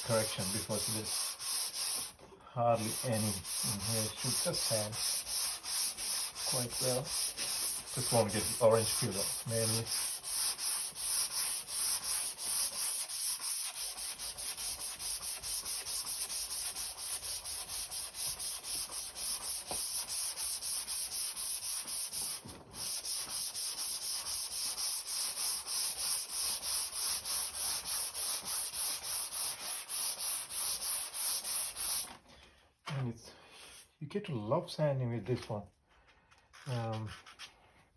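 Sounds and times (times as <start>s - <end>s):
hand sanding strokes: 0.0s - 32.1s.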